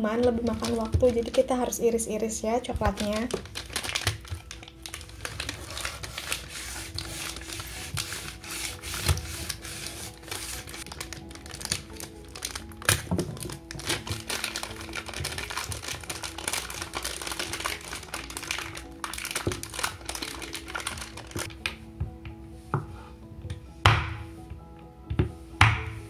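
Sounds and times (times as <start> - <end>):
background music: 0.0 - 26.0
foil wrapper crinkling: 0.2 - 21.6.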